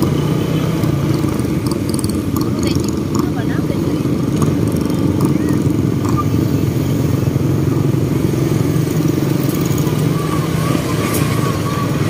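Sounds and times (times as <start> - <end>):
motorcycle engine running: 0.0 - 12.0
other motorcycles in traffic: 0.0 - 12.0.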